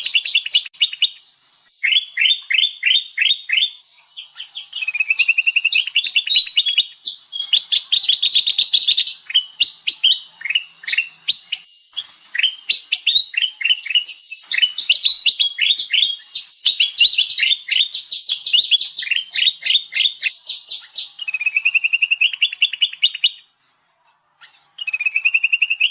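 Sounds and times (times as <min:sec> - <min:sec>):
birds chirping rapidly: 0:00.0 - 0:25.9.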